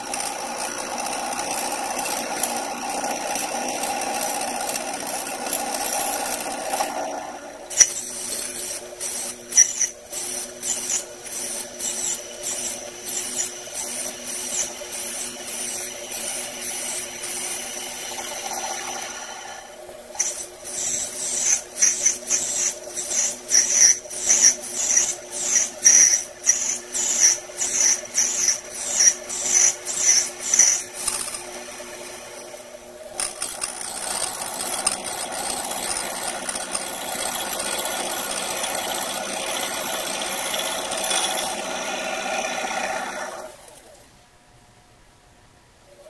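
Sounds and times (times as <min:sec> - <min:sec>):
lathe motor hum: 0:00.0 - 0:09.3, 0:11.6 - 0:44.0.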